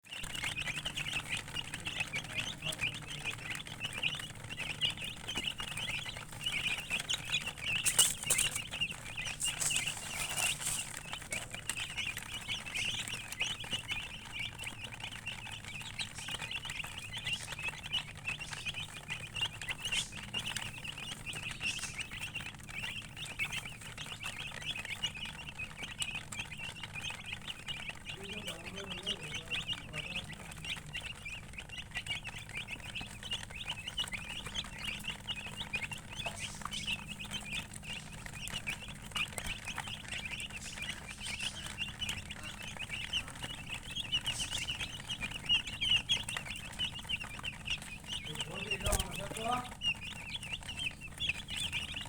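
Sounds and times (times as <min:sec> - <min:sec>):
baby chicks peeping: 0:00.0 - 0:52.0.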